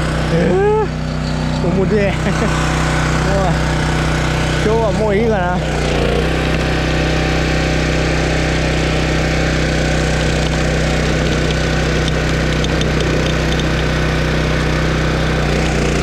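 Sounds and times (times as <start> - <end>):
log splitter engine running: 0.0 - 16.0.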